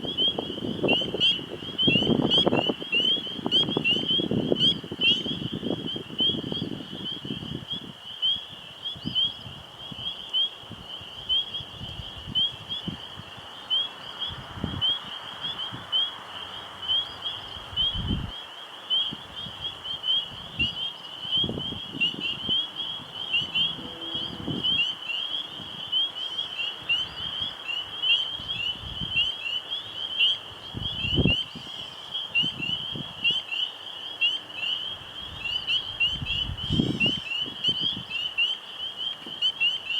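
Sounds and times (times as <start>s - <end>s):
wind rumbling on microphone: 0.0s - 16.5s, 17.2s - 18.4s, 19.1s - 29.3s, 30.4s - 33.5s, 34.9s - 38.3s
frogs peeping: 0.0s - 39.9s.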